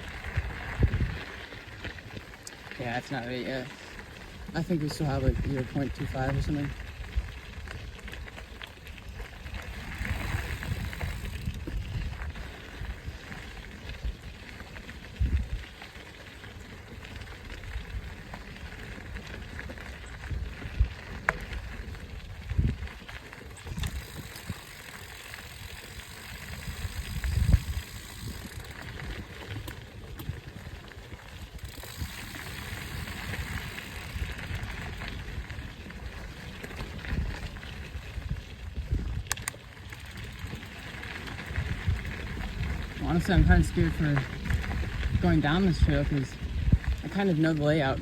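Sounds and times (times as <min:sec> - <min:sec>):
bike clicks and rattles: 0:00.0 - 0:48.0
bike tyres crunching on dirt: 0:00.0 - 0:48.0
wind buffeting microphone: 0:00.0 - 0:48.0.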